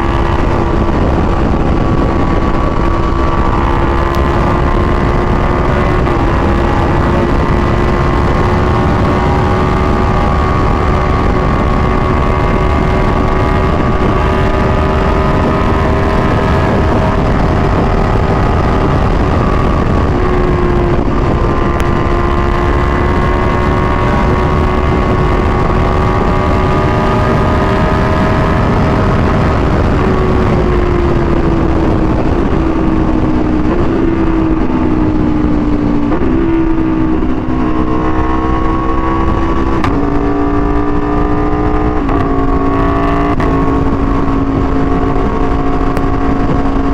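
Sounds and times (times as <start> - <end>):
motorcycle engine revving: 0.0 - 46.9
steady rushing noise: 0.0 - 46.9.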